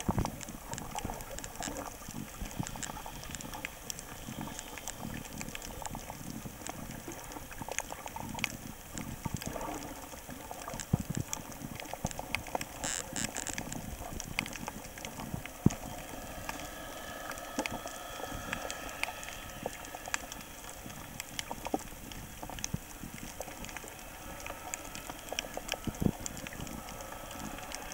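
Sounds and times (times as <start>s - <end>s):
underwater crackle of clicks: 0.0s - 27.9s.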